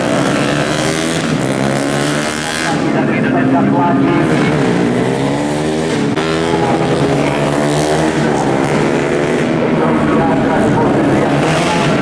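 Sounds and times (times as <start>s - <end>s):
racing motorcycles revving: 0.0s - 12.0s.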